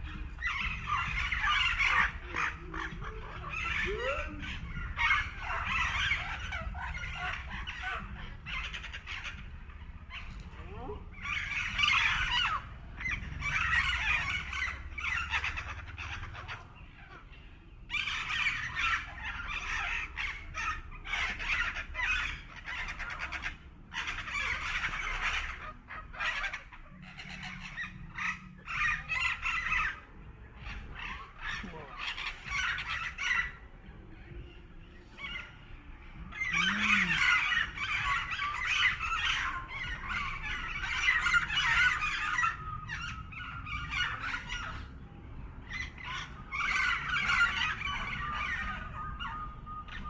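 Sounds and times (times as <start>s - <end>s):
chickens clucking and squawking: 0.0s - 50.0s.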